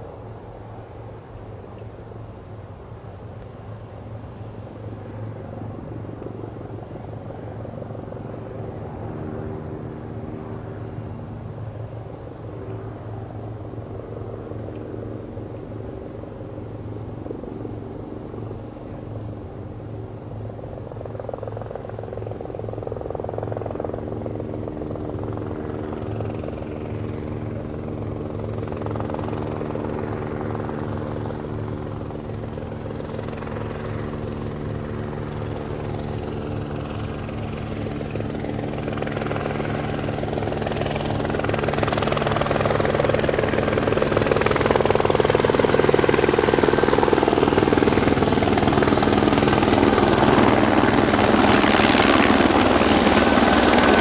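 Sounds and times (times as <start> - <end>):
helicopter rotor and turbine drone: 0.0 - 54.0.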